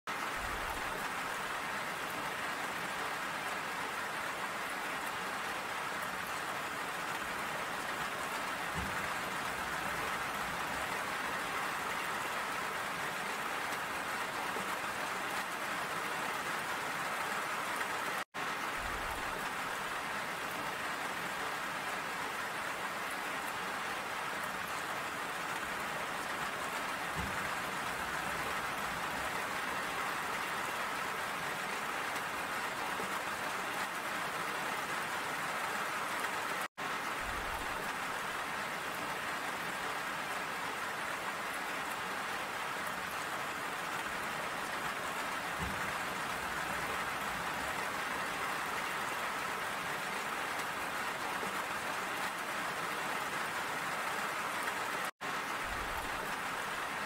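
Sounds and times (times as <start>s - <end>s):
steady rain falling: 0.1s - 57.0s.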